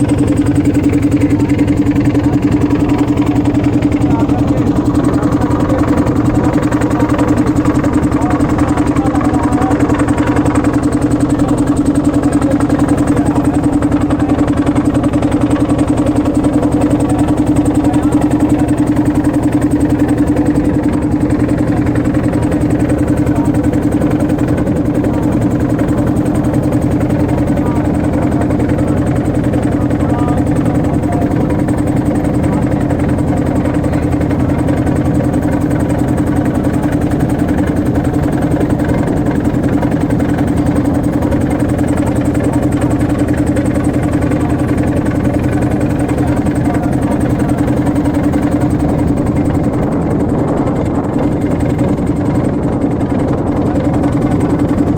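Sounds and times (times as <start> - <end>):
motorboat engine running: 0.0 - 54.9.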